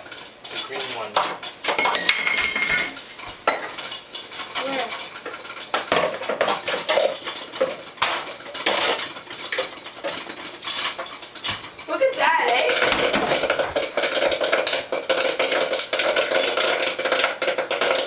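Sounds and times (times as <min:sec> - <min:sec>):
pots and pans clattering: 0:00.0 - 0:18.0.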